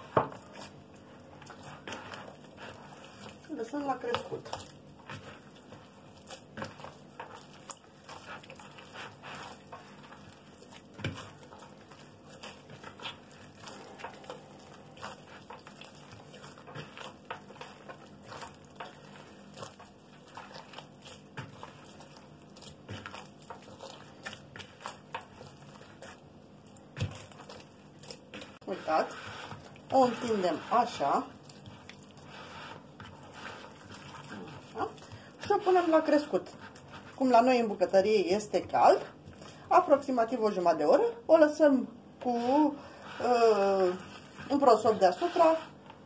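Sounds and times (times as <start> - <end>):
hand kneading wet dough: 0.0 - 46.0.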